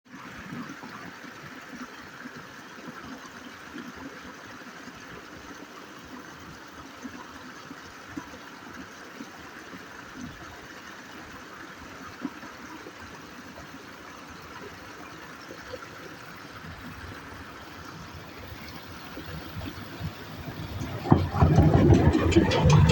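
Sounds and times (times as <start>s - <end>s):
flowing water rushing: 0.1s - 22.9s.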